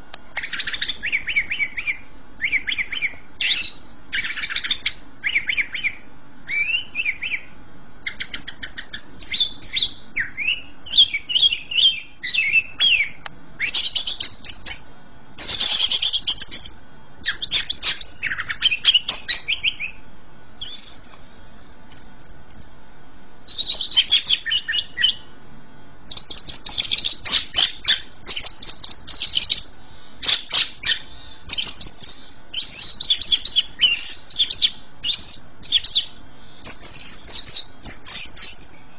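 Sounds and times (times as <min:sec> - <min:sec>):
bird singing chirps and trills: 0:00.0 - 0:22.8, 0:23.4 - 0:25.3, 0:26.0 - 0:38.9.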